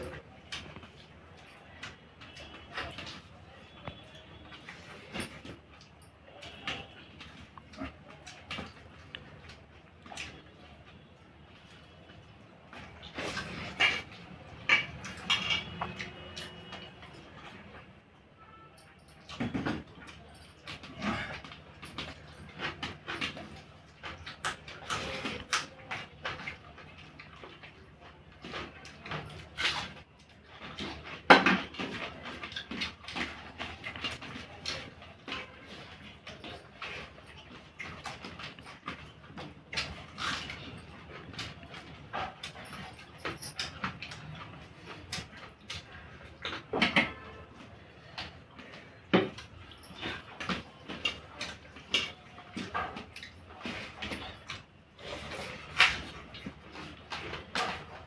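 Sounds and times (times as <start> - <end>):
chewing: 0.0 - 18.0, 19.2 - 58.0
hands mixing rice on steel plates: 0.0 - 58.0.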